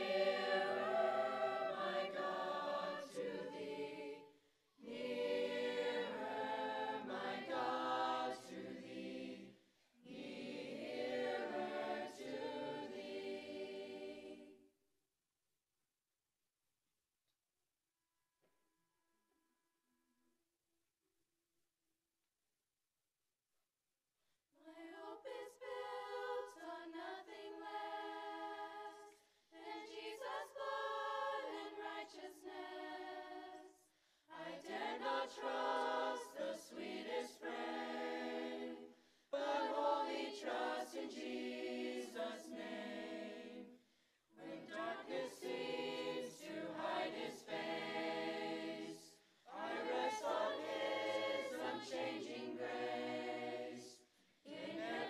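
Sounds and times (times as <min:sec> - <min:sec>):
choir singing unaccompanied: 0:00.0 - 0:14.6, 0:24.7 - 0:55.0.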